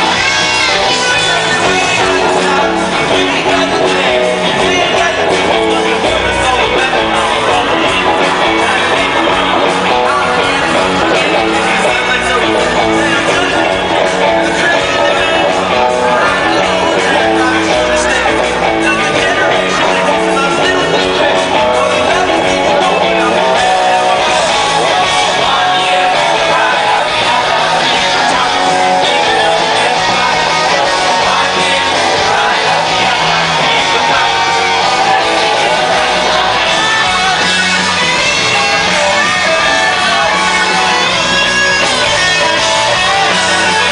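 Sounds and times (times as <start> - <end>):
live rock band: 0.0 - 43.9
person singing lead vocal: 0.0 - 43.9.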